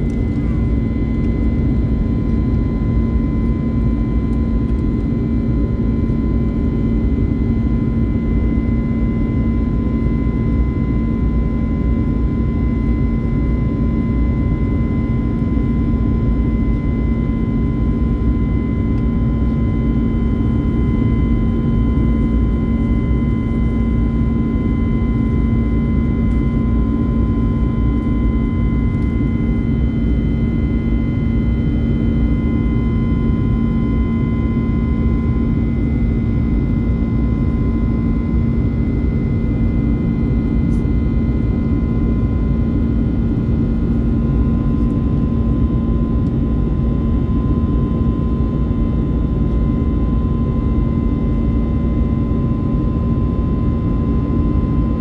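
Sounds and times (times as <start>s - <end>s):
airplane cabin engine rush: 0.0s - 55.0s
low hum: 0.0s - 55.0s.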